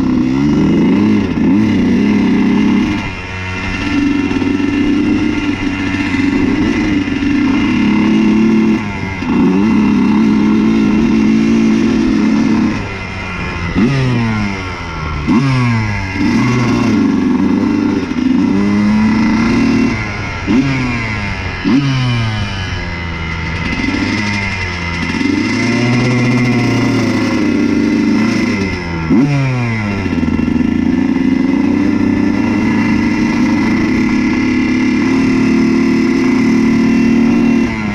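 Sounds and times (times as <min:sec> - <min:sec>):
two-stroke motorcycle engine revving: 0:00.0 - 0:37.9.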